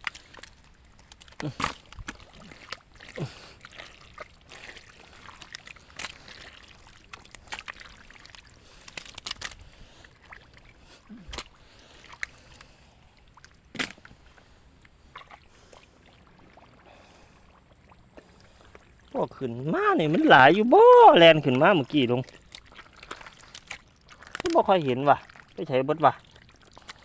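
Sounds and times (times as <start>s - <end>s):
splashing in shallow water: 0.0s - 27.0s.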